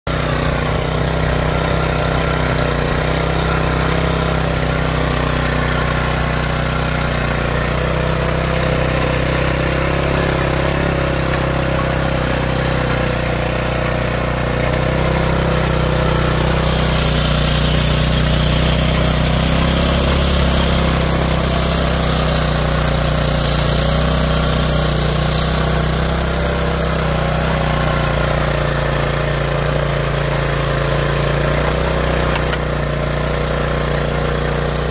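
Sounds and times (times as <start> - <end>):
mini tiller engine running: 0.0 - 34.9.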